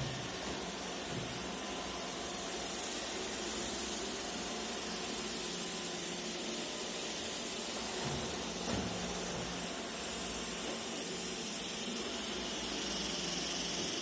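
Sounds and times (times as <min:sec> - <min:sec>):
robot vacuum hissing: 0:00.0 - 0:14.0.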